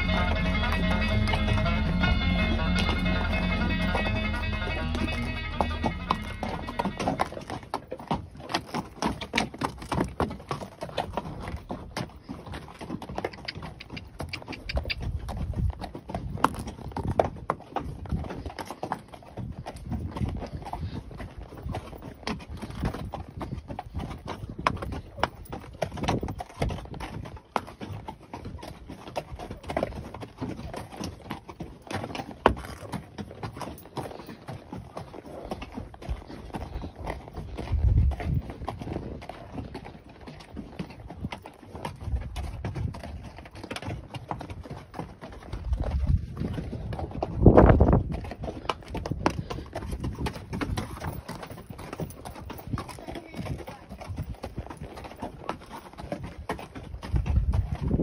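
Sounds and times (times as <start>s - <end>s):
hoofbeats on rocky trail: 0.0s - 58.0s.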